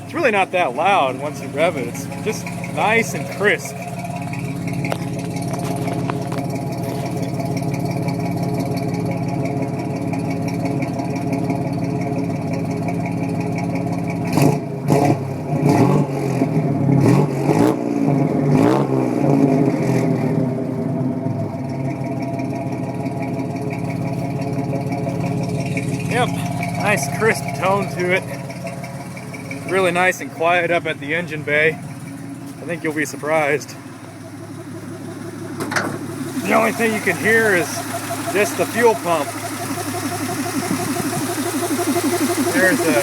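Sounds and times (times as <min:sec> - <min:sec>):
pickup engine idling and revving: 0:00.0 - 0:43.0.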